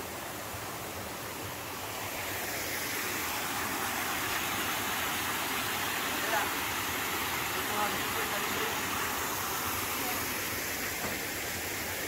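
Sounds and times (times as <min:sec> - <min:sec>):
water splashing down waterfall: 0:00.0 - 0:12.0.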